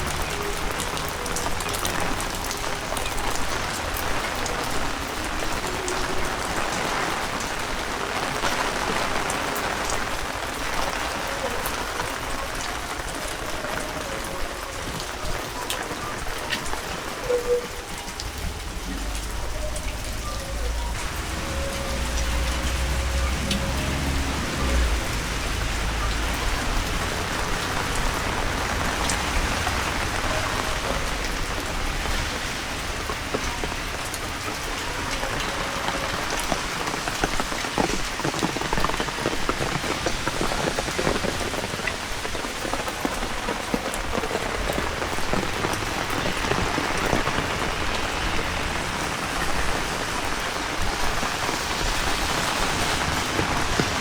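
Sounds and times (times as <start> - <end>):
heavy rain: 0.0 - 54.0
raindrops hitting surfaces: 0.0 - 54.0.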